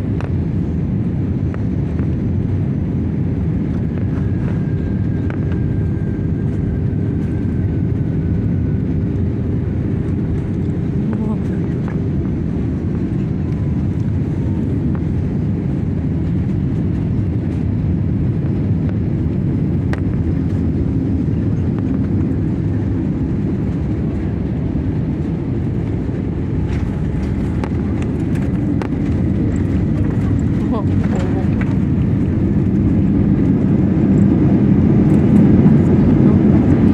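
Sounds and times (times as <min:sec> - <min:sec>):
jet engine and airflow rumble: 0:00.0 - 0:36.9.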